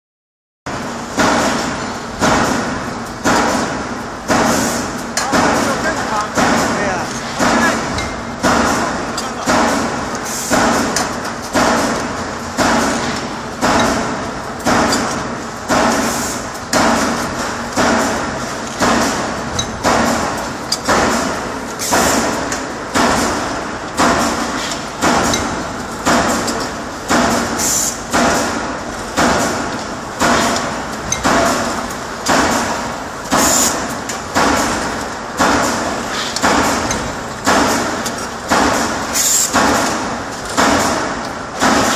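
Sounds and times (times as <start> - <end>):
press mechanical clanks: 1.1 - 41.9.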